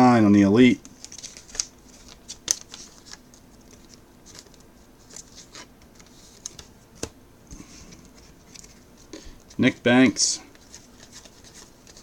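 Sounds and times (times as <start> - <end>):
cards being flipped through: 0.8 - 9.2, 10.5 - 12.0.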